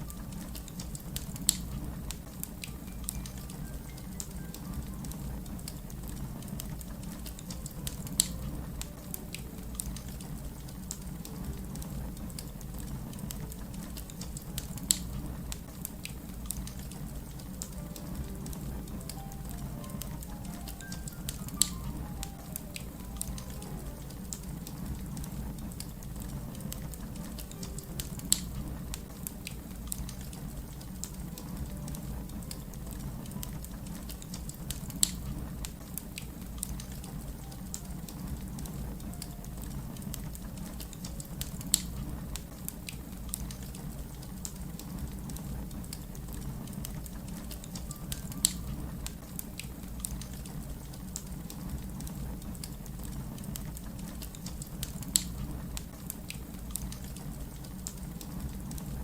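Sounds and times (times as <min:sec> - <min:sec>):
fire crackling: 0:00.0 - 0:59.0
low rumble of flames: 0:00.0 - 0:59.0.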